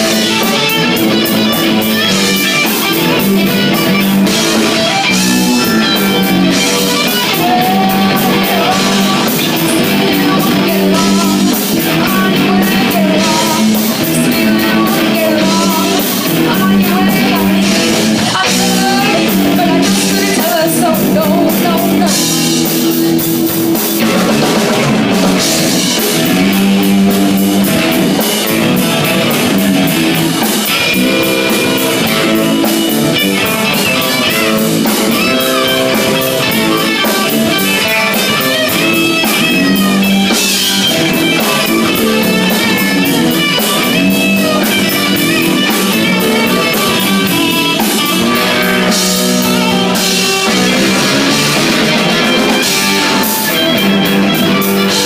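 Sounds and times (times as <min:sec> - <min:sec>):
drum kit beat on cymbals: 0:00.0 - 0:55.0
electric guitar: 0:00.0 - 0:55.0.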